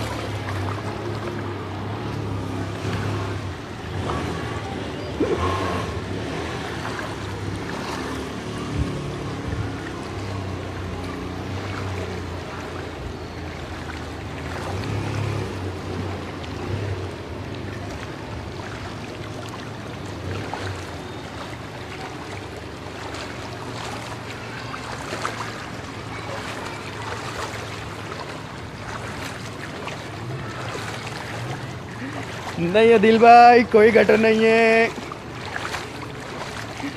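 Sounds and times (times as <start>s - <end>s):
water sloshing around wading legs: 0.0s - 36.9s.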